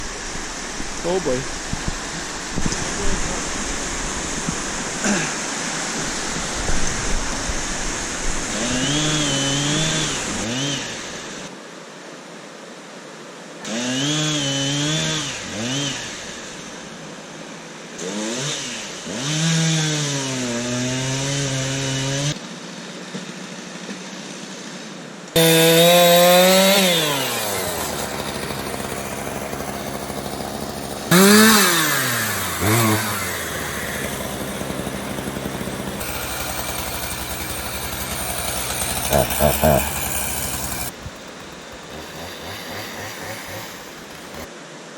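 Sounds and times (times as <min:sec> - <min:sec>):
chainsaw revving and cutting: 0:02.0 - 0:11.5, 0:13.6 - 0:17.0, 0:18.0 - 0:22.4, 0:25.4 - 0:44.5.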